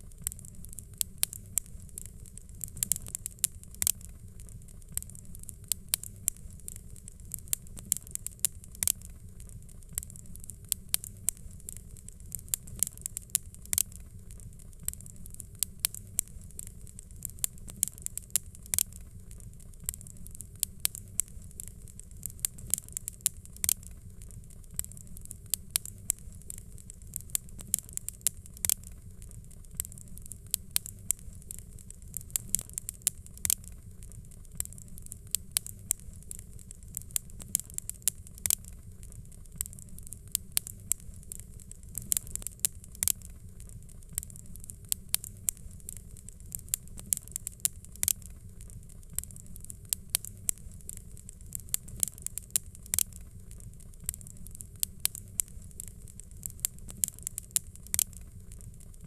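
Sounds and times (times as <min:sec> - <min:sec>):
faint hiss: 0:00.0 - 0:59.0
fire crackling and popping: 0:00.0 - 0:59.0
low fire rumble: 0:00.0 - 0:59.0.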